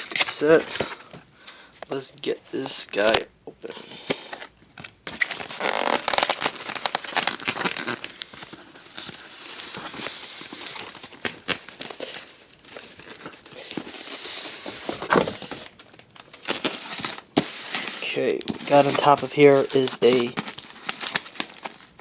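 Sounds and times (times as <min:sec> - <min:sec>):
packaging rustling and crinkling: 0:03.9 - 0:22.0.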